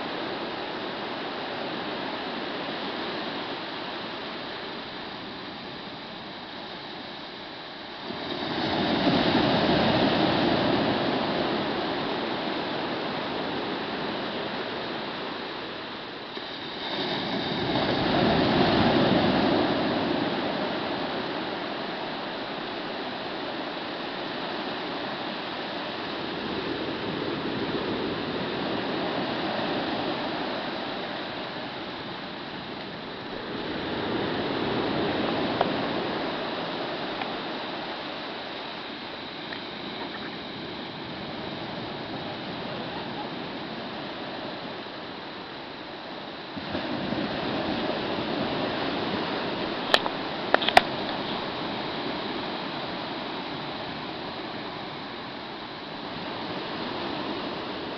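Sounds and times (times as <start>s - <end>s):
waves breaking on shore: 0.0s - 57.9s.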